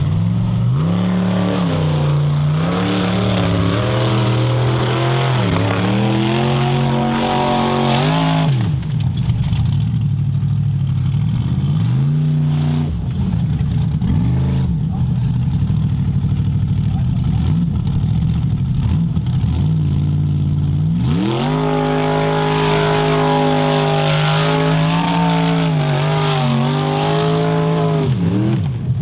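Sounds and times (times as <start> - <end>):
car engine revving: 0.0 - 9.8, 11.0 - 29.0.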